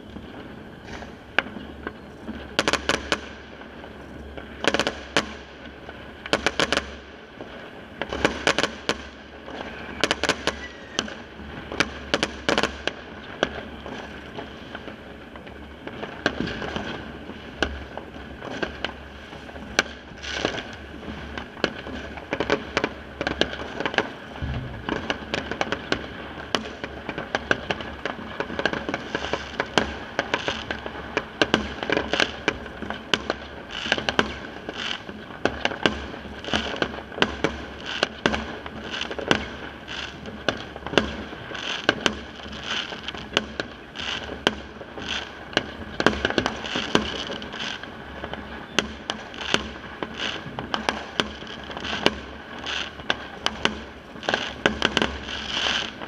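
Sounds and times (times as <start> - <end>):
firecrackers crackling: 0.0 - 56.0
firework bangs: 0.0 - 56.0.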